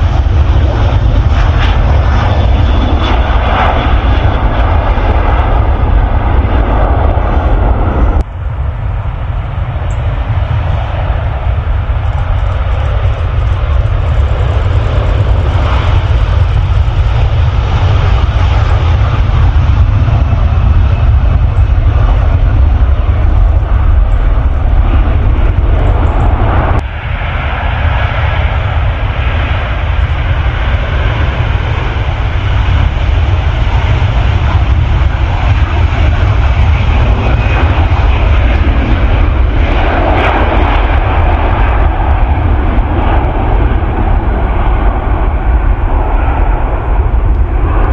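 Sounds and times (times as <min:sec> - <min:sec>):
jet engines with low rumble: 0:00.0 - 0:47.9.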